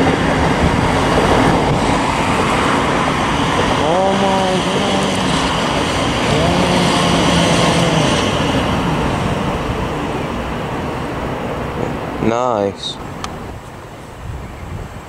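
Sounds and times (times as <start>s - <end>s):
train running past: 0.0s - 15.0s.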